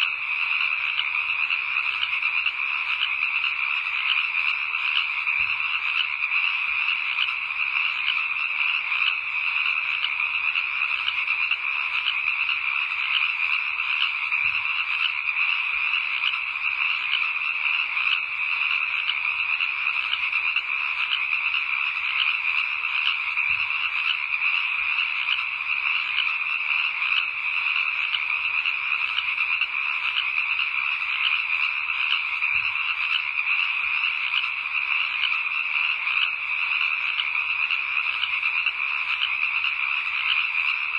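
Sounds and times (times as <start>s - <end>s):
frogs calling in chorus: 0.0s - 40.9s.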